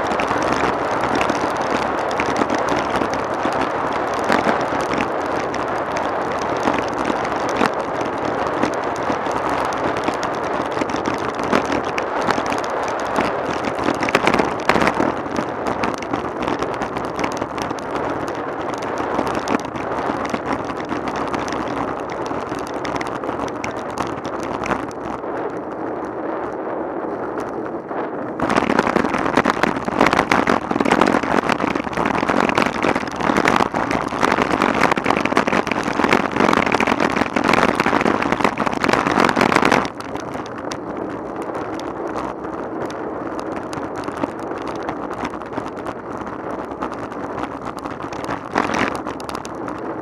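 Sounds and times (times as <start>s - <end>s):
bicycle rattling over cobblestones: 0.0s - 50.0s
tyre noise on smooth tarmac: 0.0s - 50.0s
wind noise: 0.0s - 50.0s.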